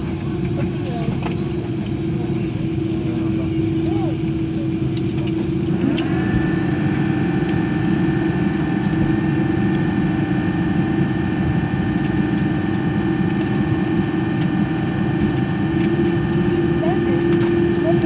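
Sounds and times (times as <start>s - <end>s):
higher engine whine: 0.0s - 18.0s
jet engine rumble in cabin: 0.0s - 18.0s.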